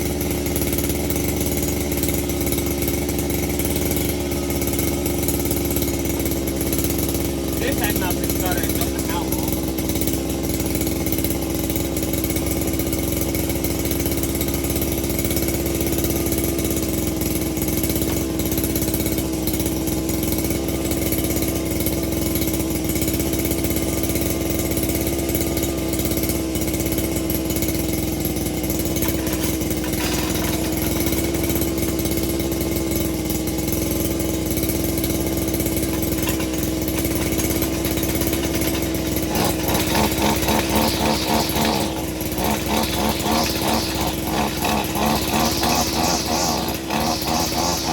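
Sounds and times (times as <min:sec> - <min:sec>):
small two-stroke engine idling: 0:00.0 - 0:47.9.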